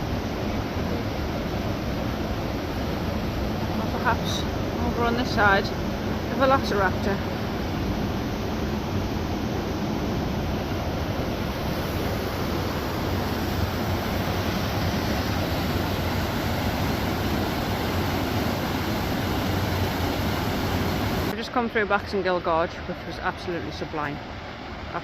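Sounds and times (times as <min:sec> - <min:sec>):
roar of white water: 0:00.0 - 0:21.4.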